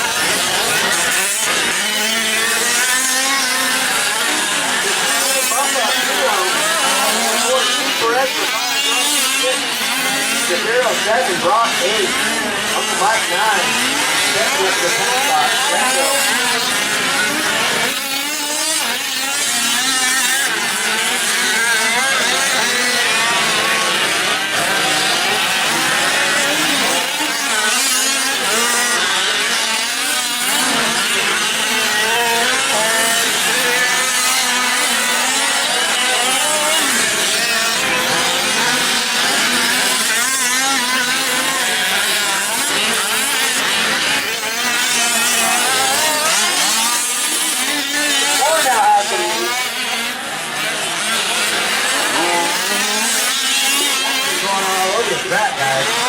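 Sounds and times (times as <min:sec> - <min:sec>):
rc truck engines revving: 0:00.0 - 0:56.0.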